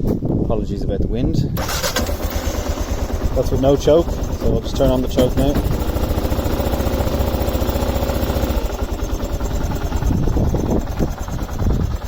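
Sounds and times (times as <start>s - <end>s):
motorcycle engine idling: 1.6s - 12.0s.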